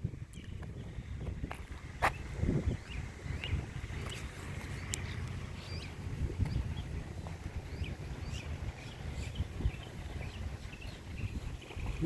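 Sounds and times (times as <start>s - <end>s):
low rumble of wind: 0.0s - 12.0s
bird chirps: 2.0s - 12.0s.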